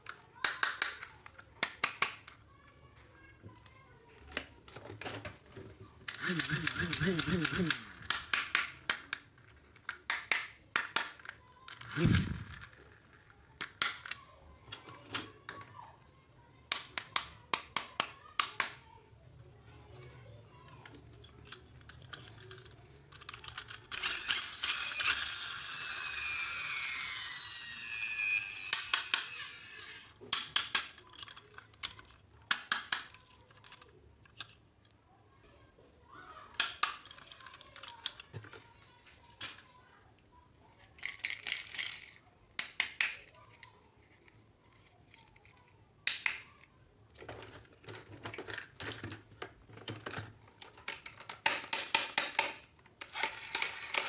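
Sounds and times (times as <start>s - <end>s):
plastic toy parts clicking: 0.0s - 2.5s, 3.5s - 15.8s, 16.7s - 18.8s, 19.9s - 35.0s, 36.5s - 39.8s, 40.7s - 54.0s.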